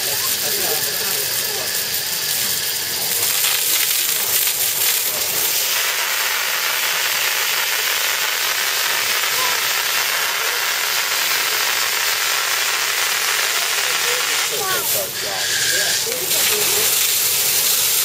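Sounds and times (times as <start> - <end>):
hose water spray splashing: 0.0 - 18.0.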